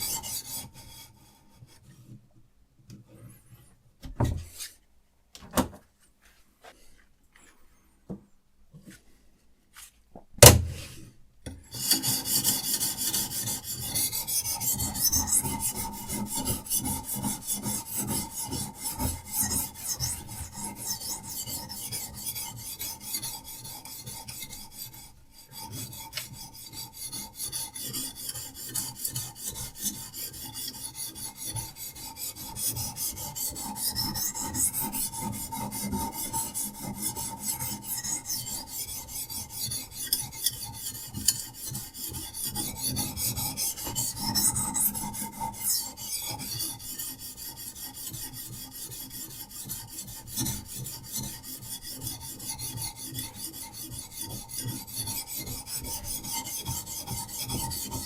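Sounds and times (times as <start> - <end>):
sharpening stone rasping on knife: 0.0 - 1.3, 11.7 - 58.0.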